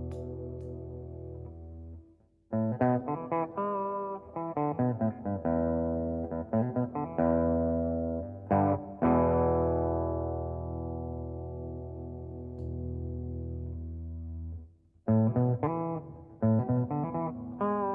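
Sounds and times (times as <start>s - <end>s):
overdriven electric guitar: 0.0s - 2.0s, 2.6s - 17.9s.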